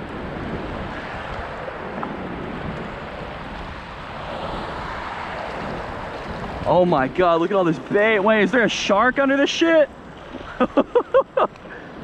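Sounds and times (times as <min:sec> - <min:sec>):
surf washing: 0:00.0 - 0:12.0
wind rumbling on microphone: 0:00.0 - 0:12.0.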